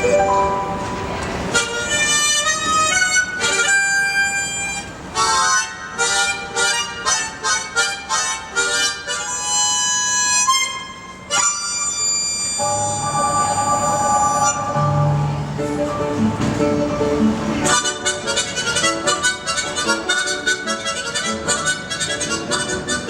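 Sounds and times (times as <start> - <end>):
tremolo harmonica tune: 0.0 - 23.0.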